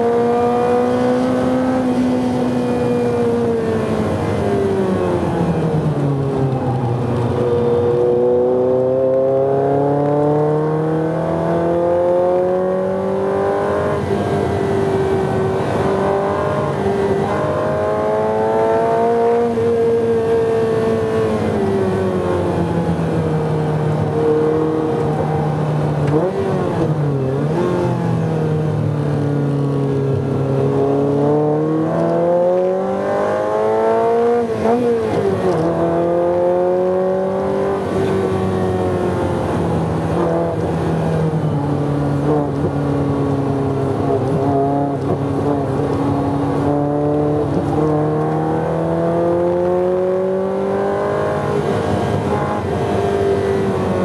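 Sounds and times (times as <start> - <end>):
car engine revving through gears: 0.0 - 28.6, 29.2 - 54.0.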